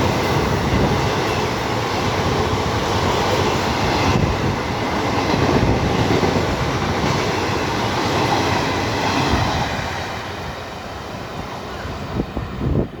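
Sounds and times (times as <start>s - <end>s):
train rushing past on rails: 0.0s - 13.0s.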